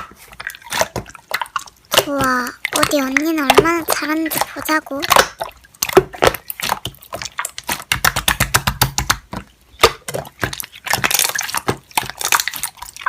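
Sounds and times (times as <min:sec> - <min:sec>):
slime popping and crackling: 0:00.0 - 0:13.0.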